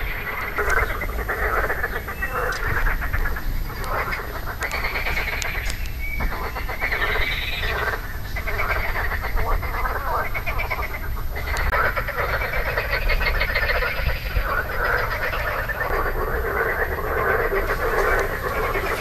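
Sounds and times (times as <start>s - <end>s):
frogs croaking: 0.0s - 19.0s.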